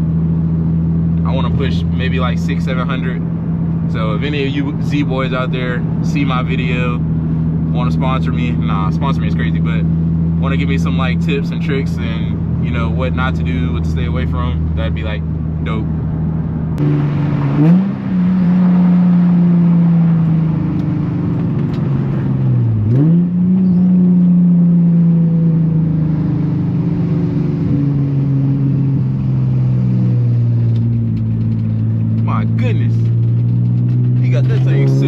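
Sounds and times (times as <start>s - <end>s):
car engine and exhaust running: 0.0s - 35.0s.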